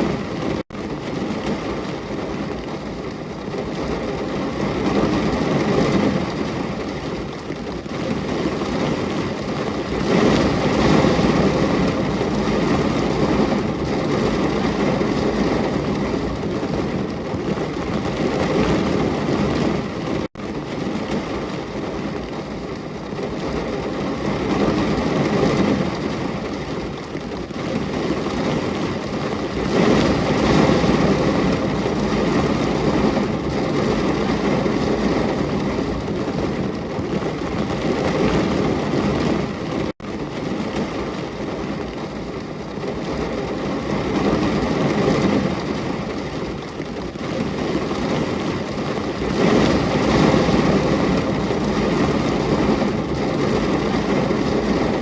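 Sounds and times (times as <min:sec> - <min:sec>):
steady loud rain: 0:00.0 - 0:55.0.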